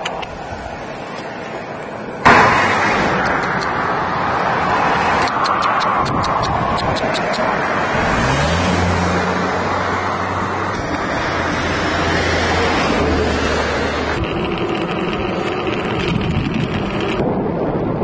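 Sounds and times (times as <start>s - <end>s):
low engine hum: 0.0s - 18.0s
rushing wind noise: 0.0s - 18.0s.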